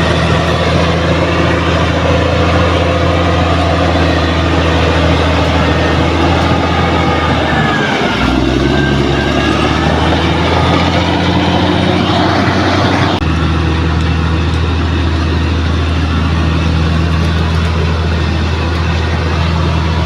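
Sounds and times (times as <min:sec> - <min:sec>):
engine clatter and hiss: 0:00.0 - 0:09.1, 0:09.8 - 0:20.0
bulldozer diesel engine running: 0:00.0 - 0:20.0.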